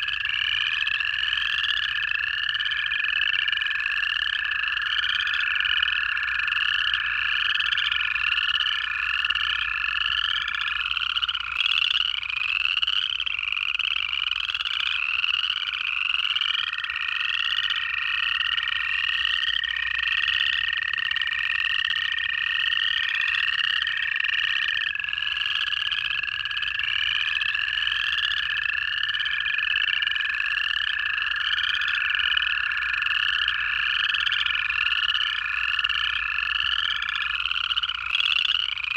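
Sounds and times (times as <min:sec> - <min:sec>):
frogs giving rising trills: 0:00.0 - 0:38.9
toads long steady trills: 0:00.0 - 0:38.9.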